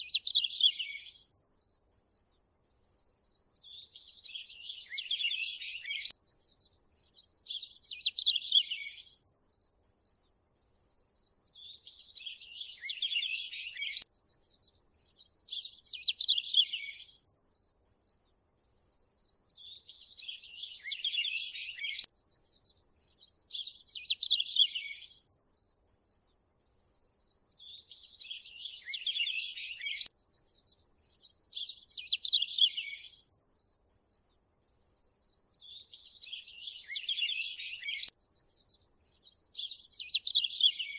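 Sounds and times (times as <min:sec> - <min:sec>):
steady high-pitched hiss: 0:00.0 - 0:40.9.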